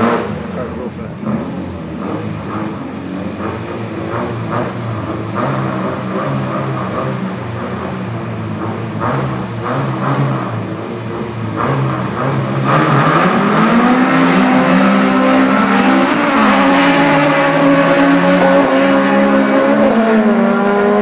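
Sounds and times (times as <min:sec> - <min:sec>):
race car engines revving: 0:00.0 - 0:21.0
race cars launching hard: 0:00.0 - 0:21.0.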